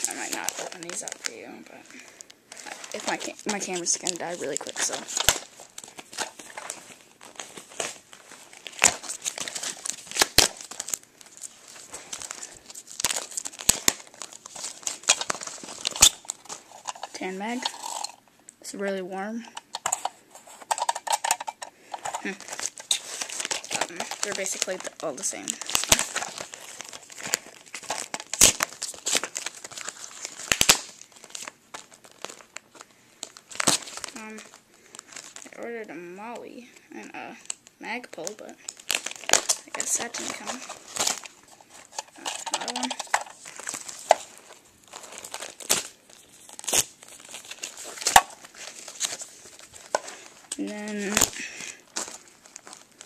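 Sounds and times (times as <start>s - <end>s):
plastic packaging crinkling: 0.0s - 18.3s, 19.4s - 53.0s.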